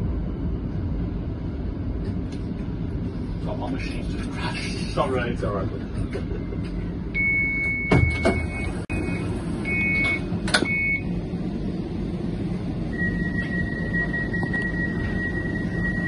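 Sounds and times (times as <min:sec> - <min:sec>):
tram equipment humming: 0:00.0 - 0:16.0.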